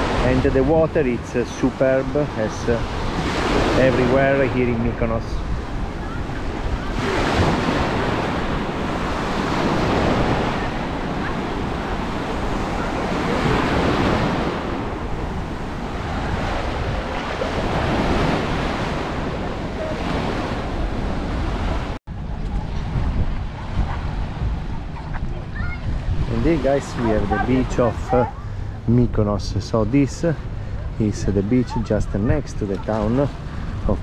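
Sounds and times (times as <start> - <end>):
waves breaking on shore: 0.0 - 34.0
wind buffeting microphone: 2.0 - 34.0.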